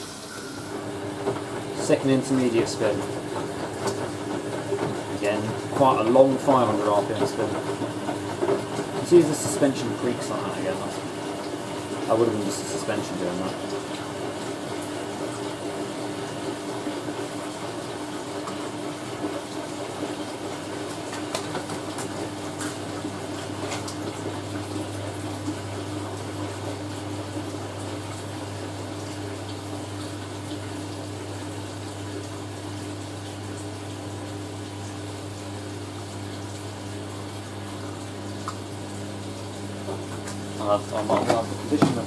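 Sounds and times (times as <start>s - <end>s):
washing machine water rushing: 0.0s - 42.0s.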